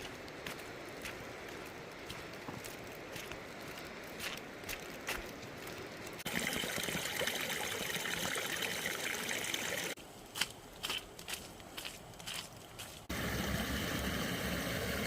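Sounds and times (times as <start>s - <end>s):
creek running and trickling: 0.0s - 15.0s
soft water sounds: 0.0s - 15.0s.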